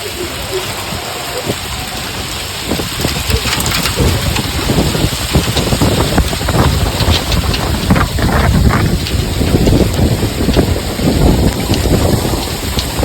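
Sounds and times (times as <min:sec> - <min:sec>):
hail and rain pelting: 0:00.0 - 0:13.0.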